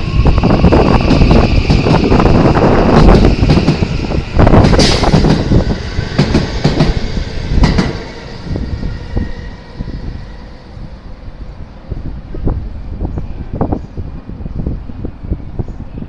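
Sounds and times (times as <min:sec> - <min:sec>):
electric train running past: 0:00.0 - 0:16.0.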